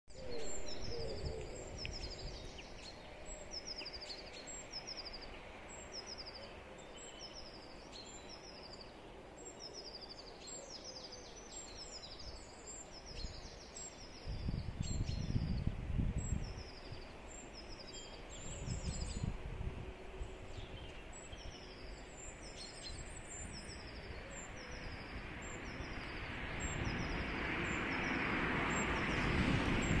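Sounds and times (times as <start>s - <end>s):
songbirds chirping: 0.1s - 30.0s.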